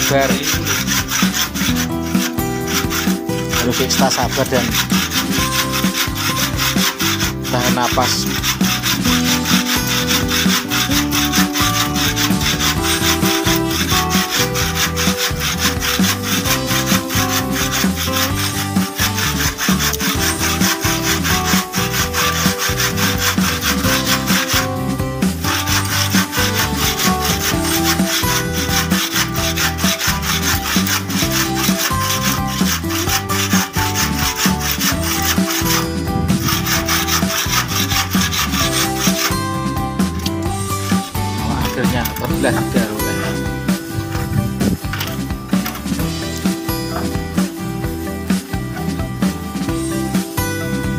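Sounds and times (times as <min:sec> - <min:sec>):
handsaw rasping through concrete: 0:00.0 - 0:47.5.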